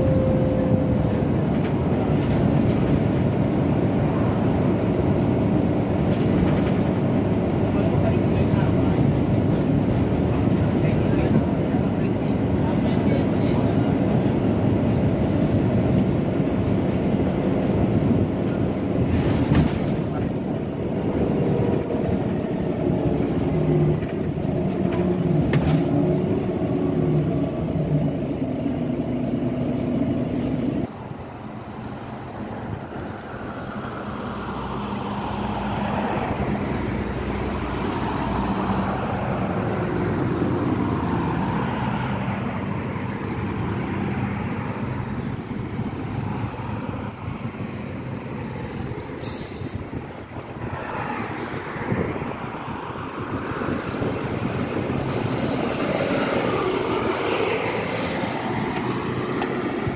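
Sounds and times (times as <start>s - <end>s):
bus engine idling: 0.0s - 50.6s
bus diesel engine running: 0.0s - 51.5s, 52.6s - 59.9s
passing traffic: 0.0s - 59.9s.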